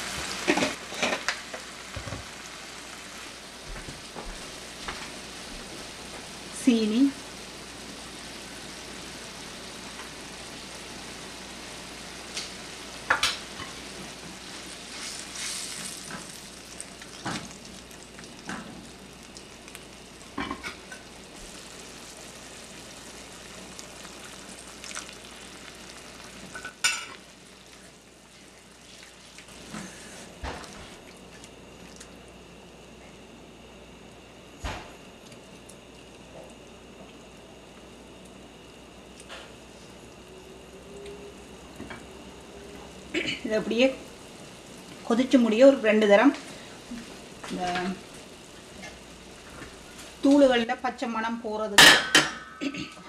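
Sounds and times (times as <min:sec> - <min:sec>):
sauce bubbling and sizzling: 0:00.0 - 0:33.0, 0:35.1 - 0:51.1.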